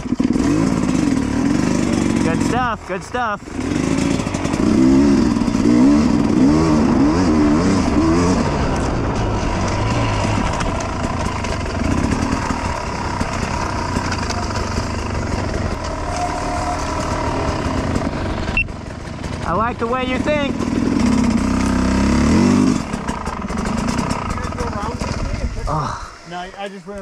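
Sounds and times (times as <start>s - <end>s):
dirt bike engine revving: 0.0s - 26.3s.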